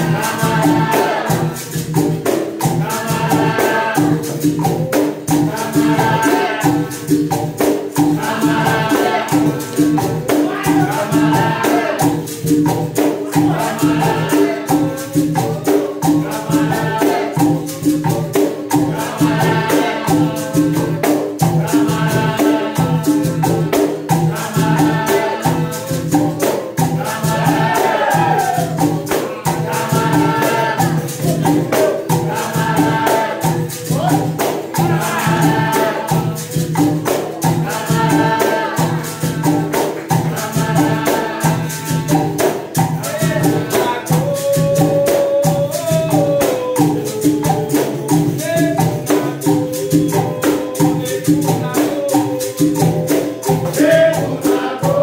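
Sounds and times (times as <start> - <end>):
berimbaus and percussion rhythm: 0.0 - 55.0
group singing: 0.0 - 55.0.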